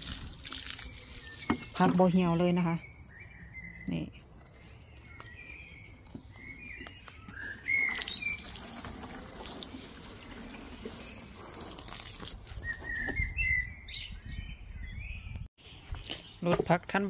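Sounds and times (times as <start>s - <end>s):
small birds chirping: 0.4s - 16.6s.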